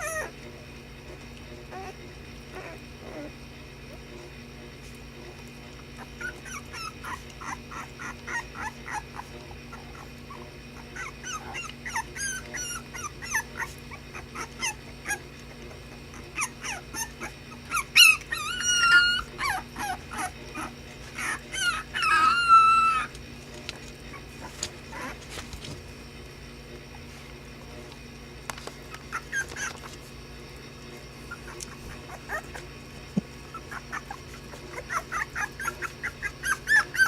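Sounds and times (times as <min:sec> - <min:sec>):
puppies whining and yipping: 0:00.0 - 0:00.4, 0:01.0 - 0:04.3, 0:05.3 - 0:25.9, 0:26.8 - 0:28.0, 0:28.6 - 0:37.0.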